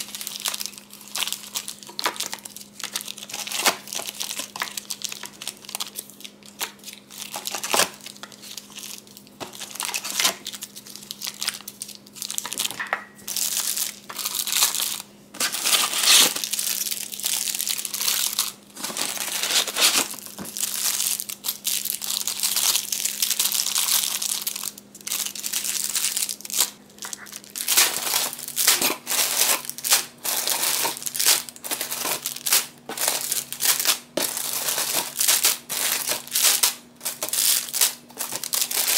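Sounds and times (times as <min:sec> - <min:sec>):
crinkly packaging crumpling: 0:00.0 - 0:38.9.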